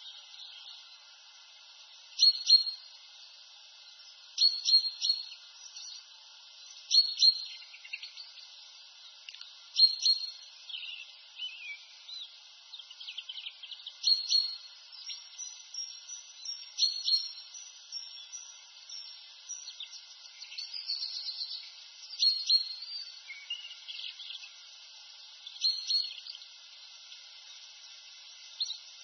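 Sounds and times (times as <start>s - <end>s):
songbirds singing: 0.0s - 29.0s
soft bird twittering: 2.1s - 3.0s, 4.3s - 29.0s.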